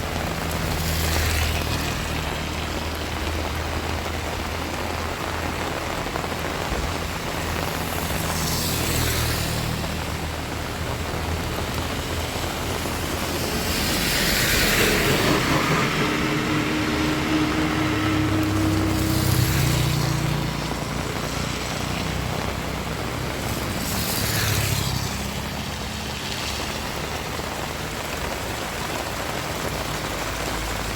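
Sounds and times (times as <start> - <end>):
heavy rain: 0.0 - 30.9
vehicles passing on wet road: 0.0 - 30.9.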